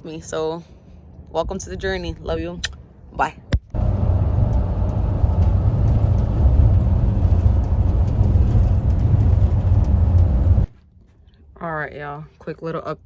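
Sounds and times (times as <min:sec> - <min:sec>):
van engine and road rumble: 0:00.0 - 0:13.0.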